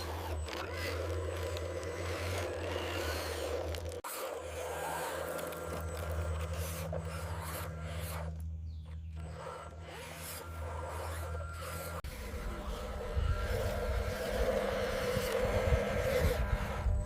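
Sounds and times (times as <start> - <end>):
rubbing and scraping: 0.0 - 17.0
steady low hum: 0.0 - 17.0.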